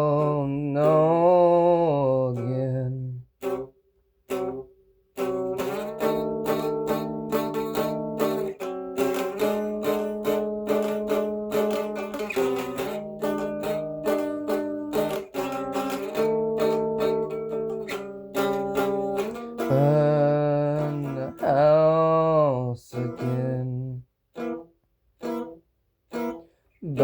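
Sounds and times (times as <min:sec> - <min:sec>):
guitar strumming chords: 0:00.0 - 0:27.0.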